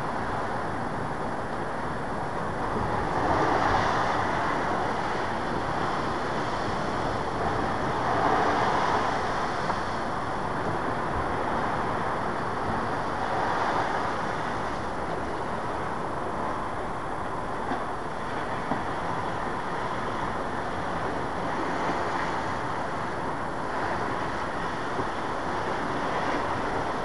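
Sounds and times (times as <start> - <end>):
waves washing onto shore: 0.0 - 27.0
wind: 0.0 - 27.0.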